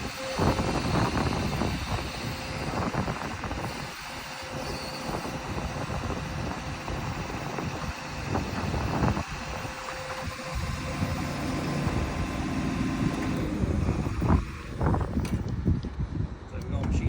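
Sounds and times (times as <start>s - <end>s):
diesel engine running: 0.0s - 16.4s.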